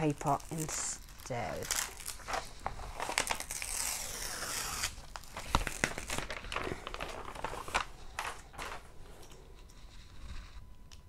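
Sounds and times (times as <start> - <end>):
plastic film peeling and crinkling: 0.0 - 9.0.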